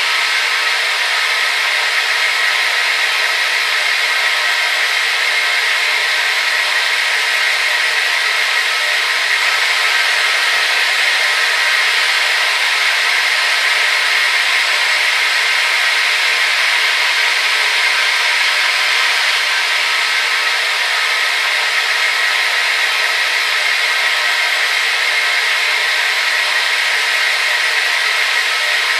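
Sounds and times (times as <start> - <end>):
hair dryer blowing: 0.0 - 28.9.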